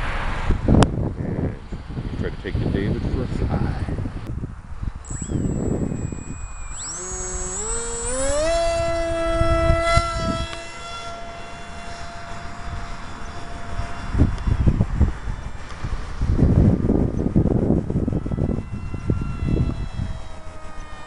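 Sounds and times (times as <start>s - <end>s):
wind buffeting microphone: 0.0s - 11.2s, 12.2s - 20.7s
motor and propeller high whine: 1.1s - 21.0s.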